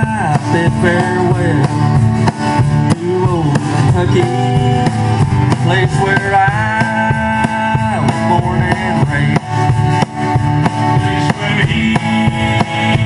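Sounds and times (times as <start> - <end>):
acoustic guitars: 0.0 - 13.0
drum kit beat: 0.0 - 13.0
upright bass: 0.0 - 13.0.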